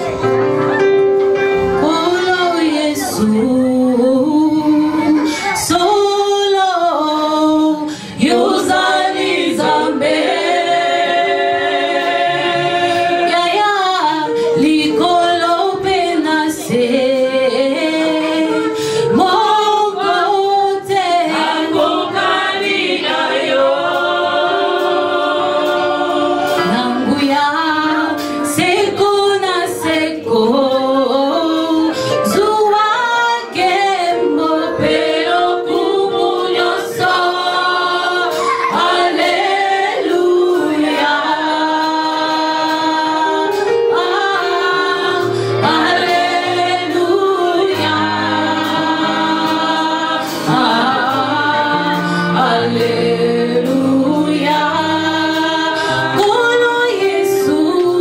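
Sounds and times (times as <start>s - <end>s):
congregation singing: 0.0s - 58.0s.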